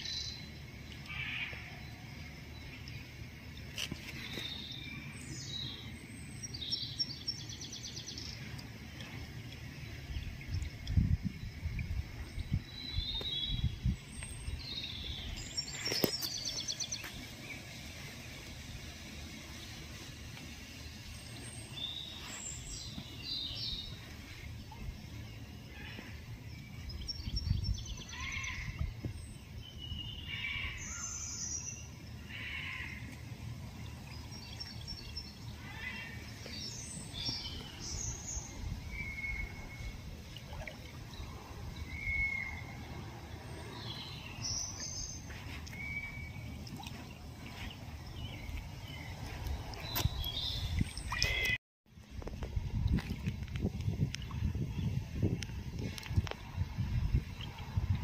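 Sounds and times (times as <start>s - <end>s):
small birds chirping: 2.4s - 18.6s, 19.6s - 51.6s.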